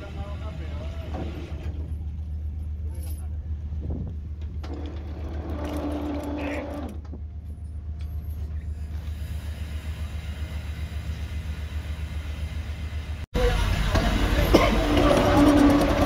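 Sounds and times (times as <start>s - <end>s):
ship engine and hydraulics drone: 0.0s - 16.0s.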